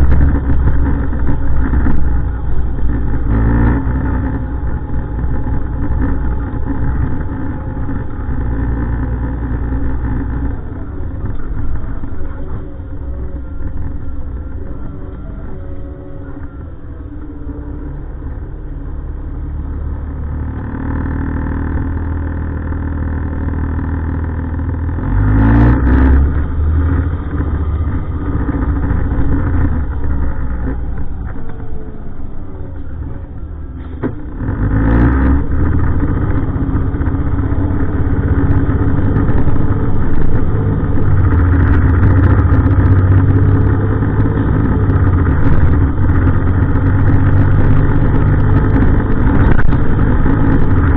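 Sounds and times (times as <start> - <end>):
diesel truck engine running: 0.0 - 50.9.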